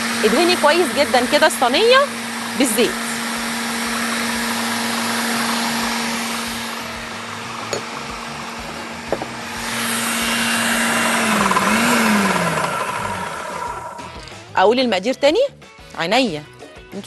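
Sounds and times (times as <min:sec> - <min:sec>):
electric blender running: 0:00.0 - 0:14.4.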